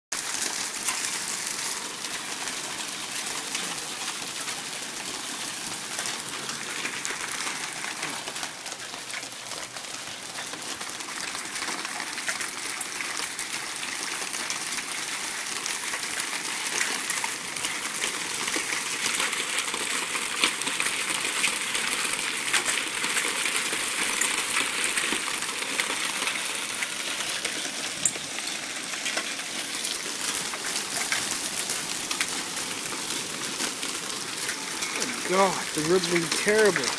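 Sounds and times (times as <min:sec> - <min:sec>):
heavy rain falling: 0:00.1 - 0:36.9
hailstones ticking: 0:00.2 - 0:36.9.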